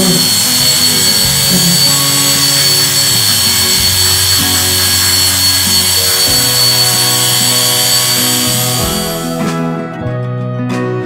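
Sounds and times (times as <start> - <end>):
electric hair clippers buzzing: 0.0 - 9.5
background music with held notes: 0.0 - 11.0.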